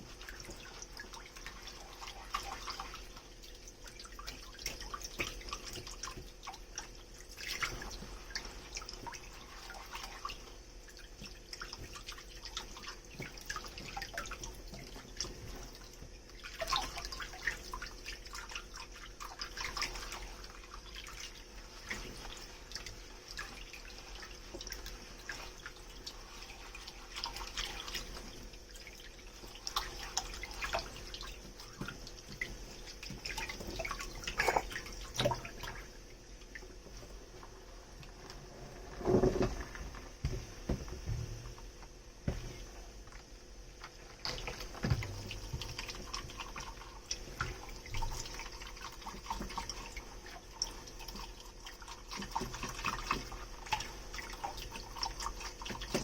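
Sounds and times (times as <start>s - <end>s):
water splashes: 0.0s - 38.2s, 43.8s - 56.0s
water trickling in a sink: 0.0s - 56.0s.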